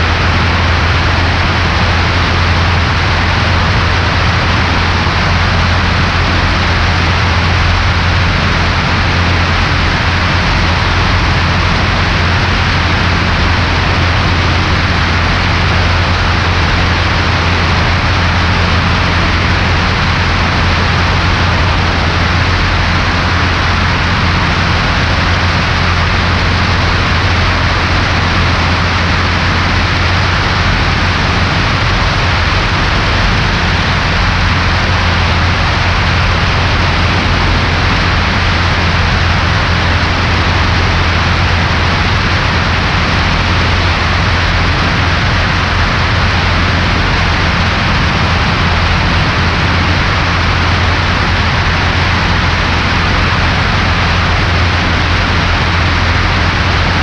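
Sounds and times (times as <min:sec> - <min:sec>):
aircraft engine drone: 0:00.0 - 0:57.0
rushing airflow: 0:00.0 - 0:57.0.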